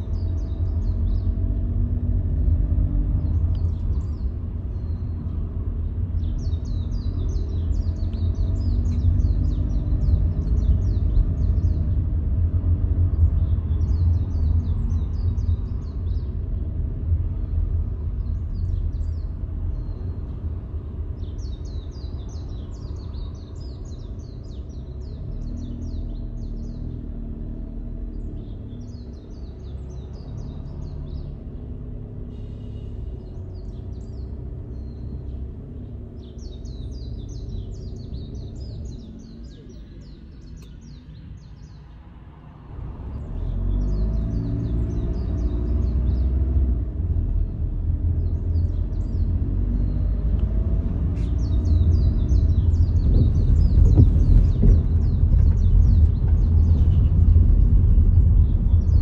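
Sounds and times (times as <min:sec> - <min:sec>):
birds chirping: 0:00.0 - 0:59.0
car engine and road rumble: 0:00.0 - 0:59.0.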